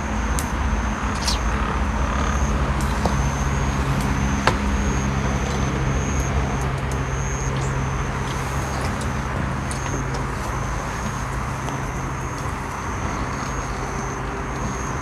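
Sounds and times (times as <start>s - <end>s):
high-pitched insect trill: 0.0s - 15.0s
low mechanical hum and rumble: 0.0s - 15.0s.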